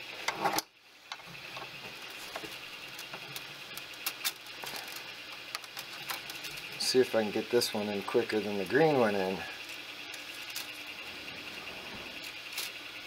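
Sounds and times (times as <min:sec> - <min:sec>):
printer fans humming: 0:00.0 - 0:13.0.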